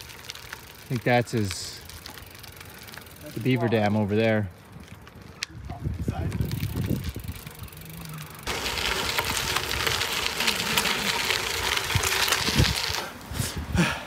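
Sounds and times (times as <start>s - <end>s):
bicycle tyres rolling over twigs: 0.0s - 14.0s.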